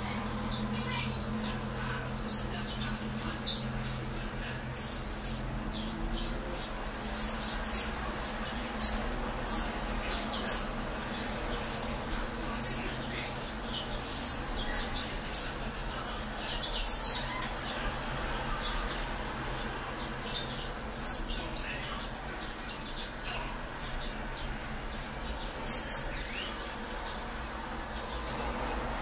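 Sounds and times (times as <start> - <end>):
finches chirping: 0.0 - 28.5.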